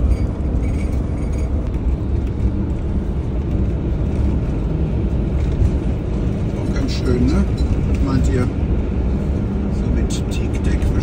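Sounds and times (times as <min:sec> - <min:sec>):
engine and road rumble inside vehicle: 0:00.0 - 0:11.0.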